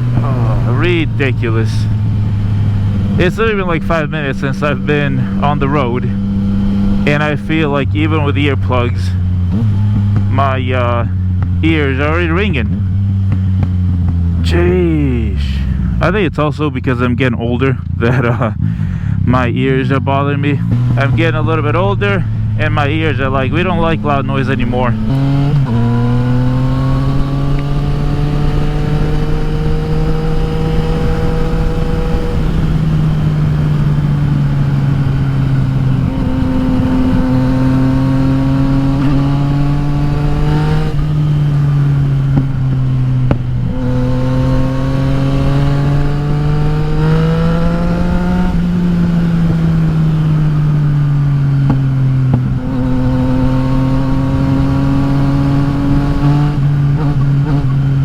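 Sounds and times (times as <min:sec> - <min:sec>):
motorcycle engine revving: 0:00.0 - 0:16.6, 0:17.7 - 0:58.0.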